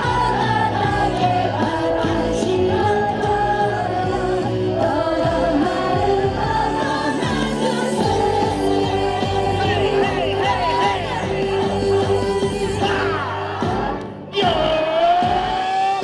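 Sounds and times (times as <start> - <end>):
dance music with singing: 0.0 - 16.0.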